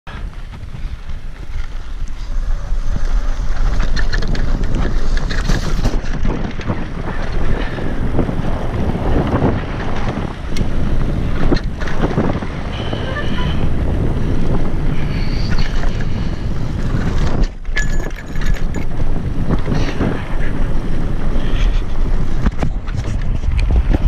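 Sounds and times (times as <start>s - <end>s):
bike clicks and rattles: 0.1s - 12.8s, 13.6s - 24.0s
wind rumbling on microphone: 0.1s - 24.0s.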